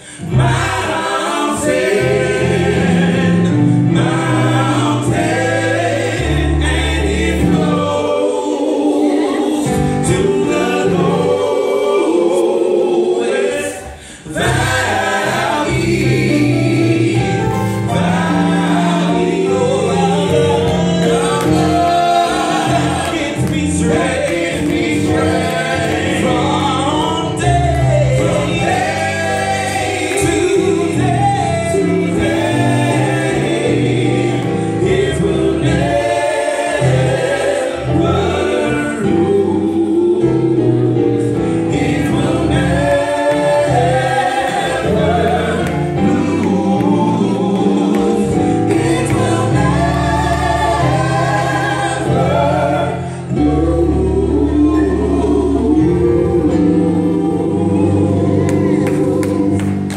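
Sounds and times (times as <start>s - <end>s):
male vocal quartet singing: 0.0s - 59.9s.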